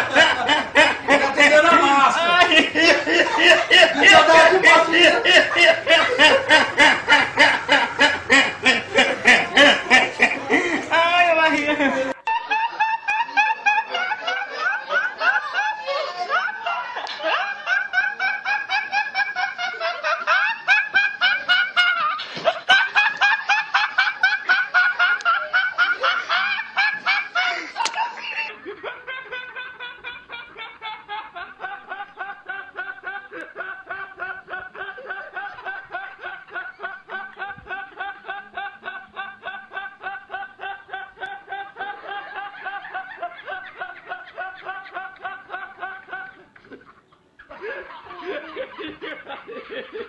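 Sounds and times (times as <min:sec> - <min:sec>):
young men laughing hard: 0:00.0 - 0:50.0.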